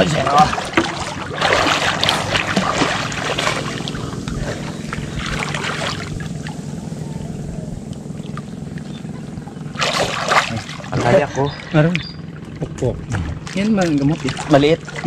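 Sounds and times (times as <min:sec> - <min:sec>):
steady low hum: 0:00.0 - 0:15.0
water splashing and sloshing: 0:00.0 - 0:15.0.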